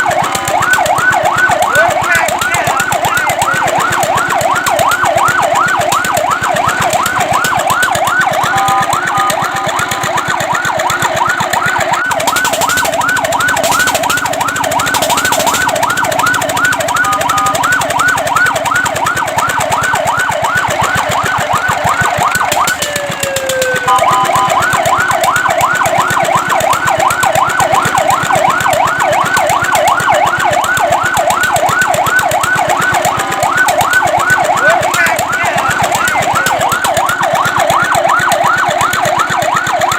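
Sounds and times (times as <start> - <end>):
fire truck siren yelping: 0.0 - 39.9.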